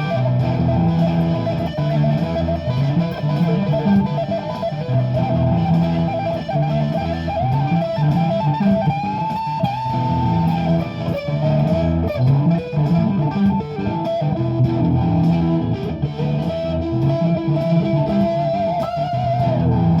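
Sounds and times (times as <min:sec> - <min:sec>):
lead guitar with pitch bends: 0:00.0 - 0:20.0
looped guitar and bass: 0:00.0 - 0:20.0.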